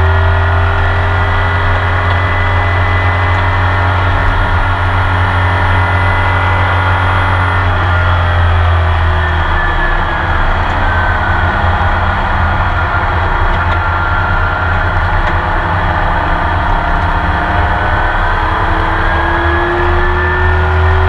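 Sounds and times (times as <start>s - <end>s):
racing engine running hard: 0.0s - 21.0s
road and wind noise: 0.0s - 21.0s.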